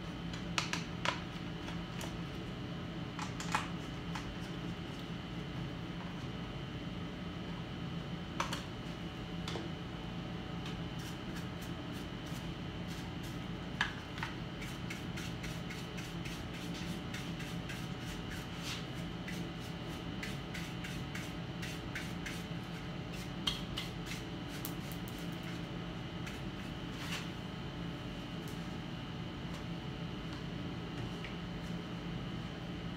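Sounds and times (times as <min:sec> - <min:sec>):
steady background hum: 0:00.0 - 0:32.9.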